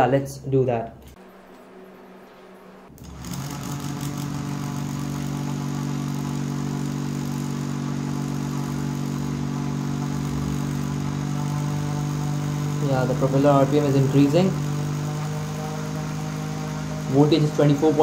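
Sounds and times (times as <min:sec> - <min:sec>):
small motor spinning propeller: 0:01.2 - 0:18.0.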